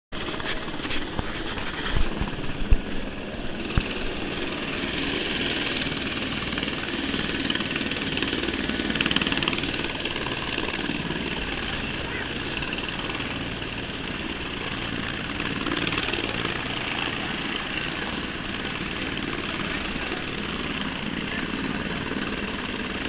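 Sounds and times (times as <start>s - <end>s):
helicopter turbine and rotor: 0.1s - 23.0s.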